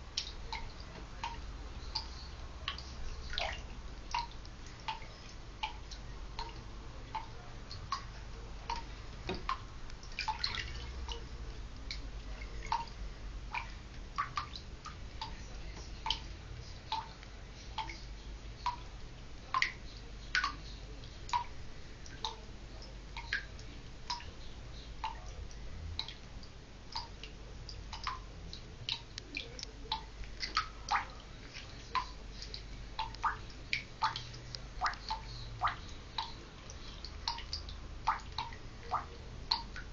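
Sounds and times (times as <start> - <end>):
low steady hum: 0.0 - 39.9
water drops plinking into bathtub: 0.1 - 15.4, 16.0 - 16.2, 16.8 - 18.0, 19.5 - 20.6, 21.3 - 24.4, 25.0 - 39.9.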